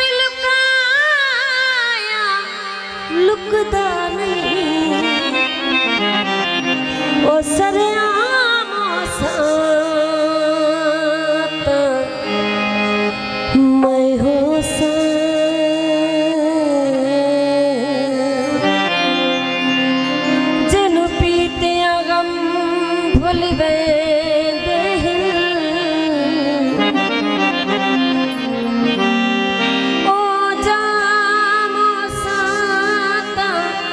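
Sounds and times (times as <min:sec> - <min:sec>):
folk melody over drone: 0:00.1 - 0:33.9.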